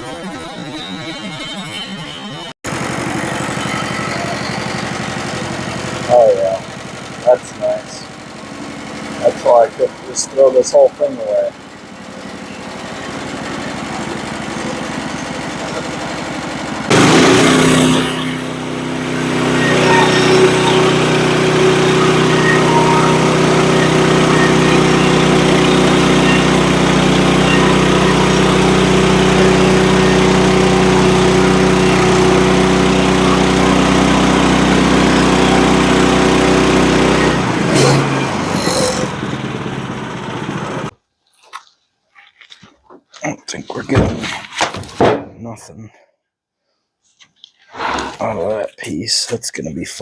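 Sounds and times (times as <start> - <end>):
band saw cutting log: 0.0 - 40.9
gas engine running: 0.0 - 41.0.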